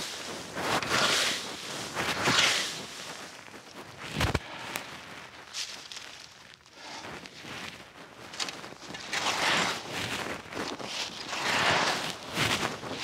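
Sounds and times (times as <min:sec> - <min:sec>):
rake scraping dry leaves: 0:00.0 - 0:03.4, 0:05.5 - 0:13.0.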